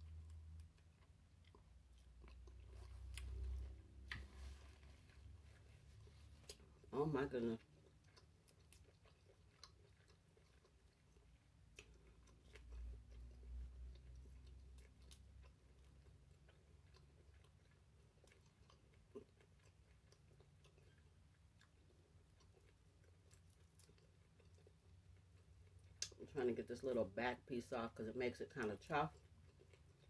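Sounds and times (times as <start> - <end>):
faint chewing: 0.0 - 27.0, 28.1 - 30.0.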